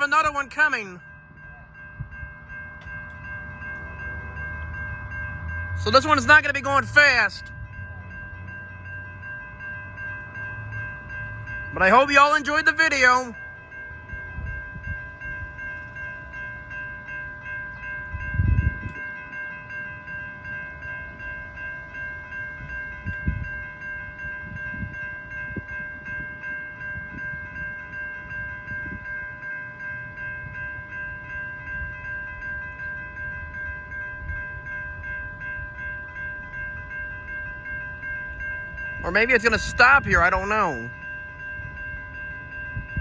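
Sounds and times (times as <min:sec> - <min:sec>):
railroad crossing bell ringing: 0:00.0 - 0:43.0.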